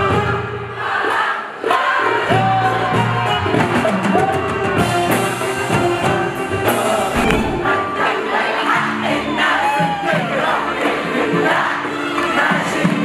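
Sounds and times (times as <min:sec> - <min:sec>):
large audience: 0:00.0 - 0:13.0.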